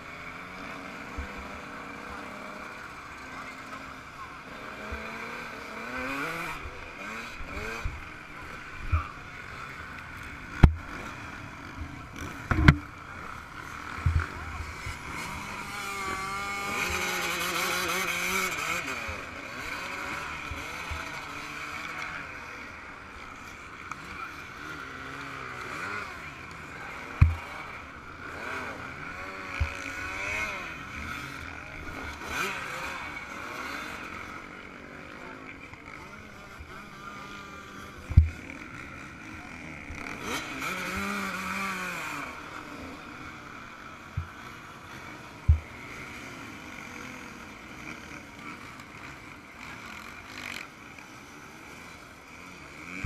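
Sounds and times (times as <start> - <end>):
two-stroke engine revving: 0.1 - 53.0.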